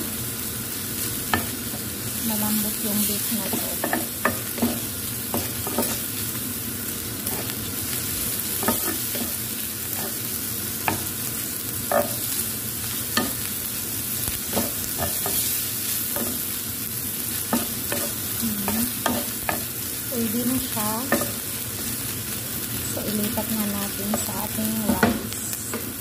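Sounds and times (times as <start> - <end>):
meat sizzling in grill pan: 0.0 - 26.0.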